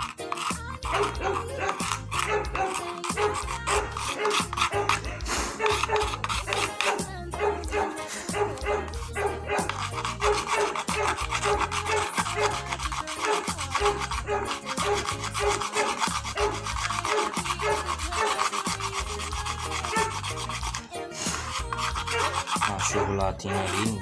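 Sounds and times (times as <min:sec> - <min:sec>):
file rasping on plastic: 0:00.0 - 0:24.0.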